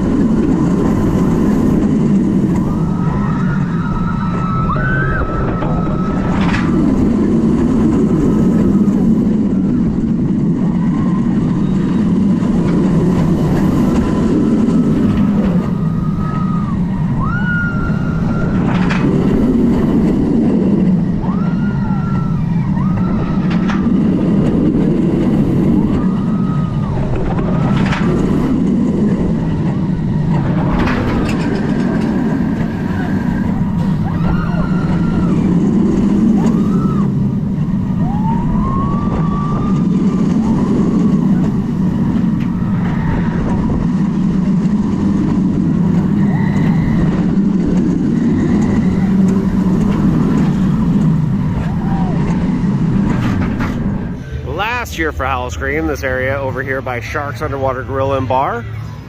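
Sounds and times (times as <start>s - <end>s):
rising and falling whines: 0.0s - 59.0s
roller coaster train rumble: 0.0s - 59.0s.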